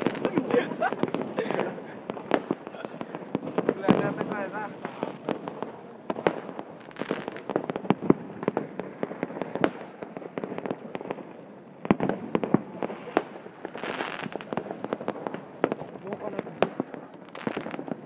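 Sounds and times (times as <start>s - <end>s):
distant fireworks bangs and pops: 0.0s - 18.0s
fireworks crackle: 0.0s - 18.0s.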